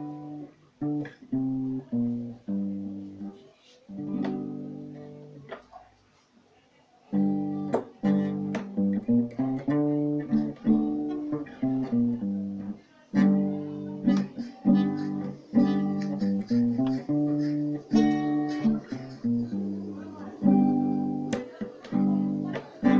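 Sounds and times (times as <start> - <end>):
picked guitar notes: 0.0 - 5.6, 7.1 - 22.9.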